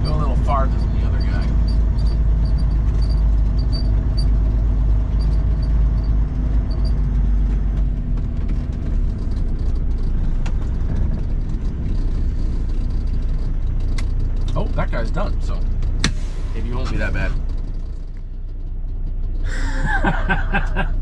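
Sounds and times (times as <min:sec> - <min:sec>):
truck diesel engine rumbling: 0:00.0 - 0:21.0.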